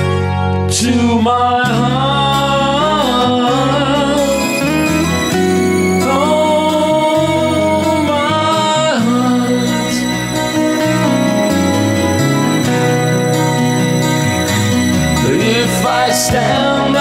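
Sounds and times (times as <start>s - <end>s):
slow ballad music: 0.0s - 17.0s.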